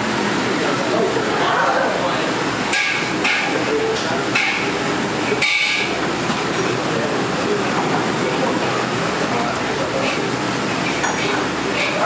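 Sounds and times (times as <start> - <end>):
busy restaurant din: 0.0 - 12.0
faint voices: 0.0 - 12.0.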